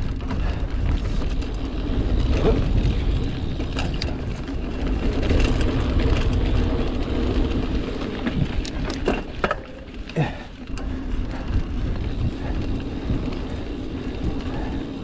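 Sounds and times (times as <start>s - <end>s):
bike clicks and rattles: 0.0s - 15.0s
bike tyres rolling on dirt: 0.0s - 15.0s.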